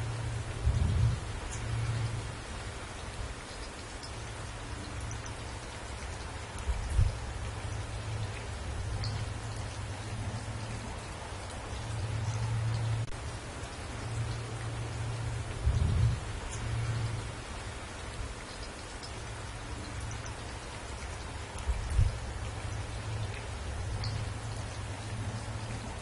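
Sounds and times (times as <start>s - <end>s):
rain pattering on branches: 0.0s - 26.0s.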